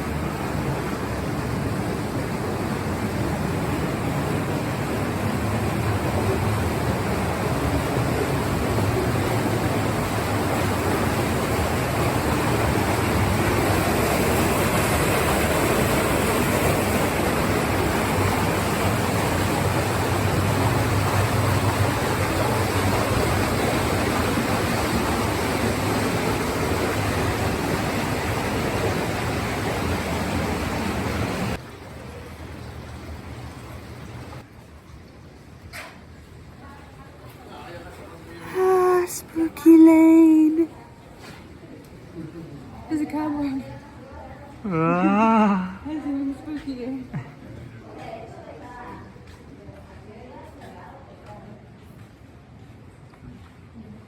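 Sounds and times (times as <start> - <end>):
water rushing: 0.0 - 46.5.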